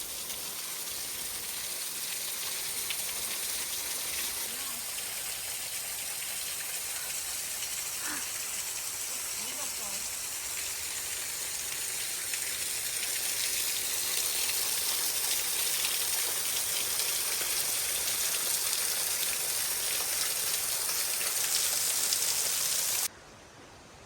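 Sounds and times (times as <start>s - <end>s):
small waterfall splashing: 0.0s - 23.1s.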